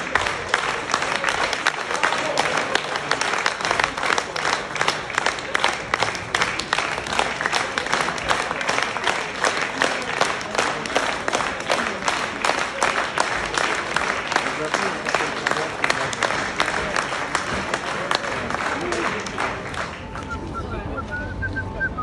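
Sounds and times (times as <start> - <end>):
audience applauding: 0.0 - 21.3.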